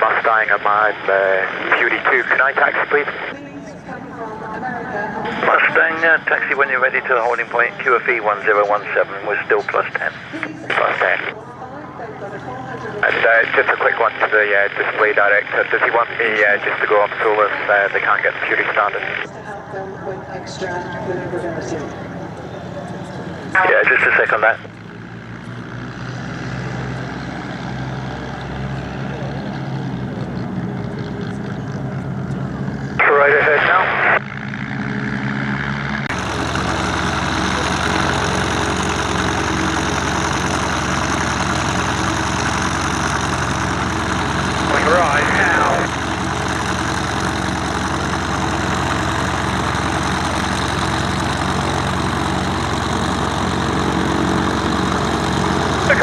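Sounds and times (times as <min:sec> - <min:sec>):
piston aircraft engine droning: 0:00.0 - 0:56.0.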